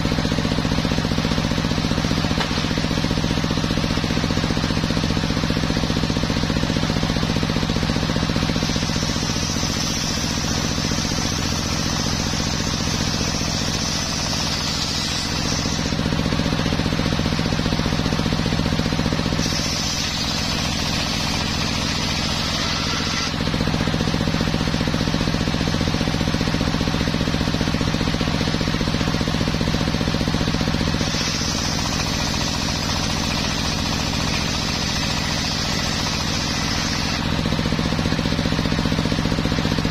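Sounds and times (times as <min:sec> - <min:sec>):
saw blade cutting wood whine: 0:00.0 - 0:39.9
saw drive hum: 0:00.0 - 0:39.9.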